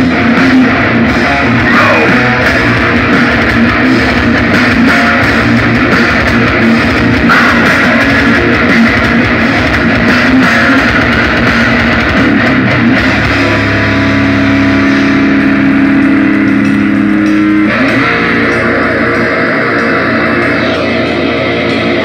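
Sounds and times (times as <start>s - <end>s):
held guitar chord ringing: 0.0s - 22.0s
live rock band: 0.0s - 22.0s.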